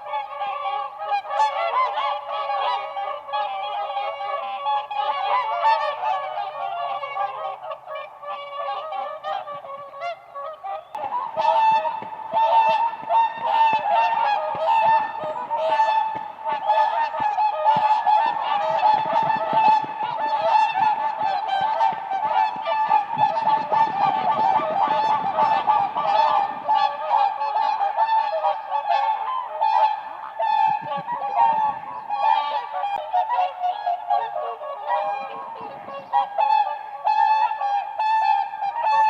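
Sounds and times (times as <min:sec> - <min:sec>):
swans trumpeting honks: 0:00.0 - 0:39.0.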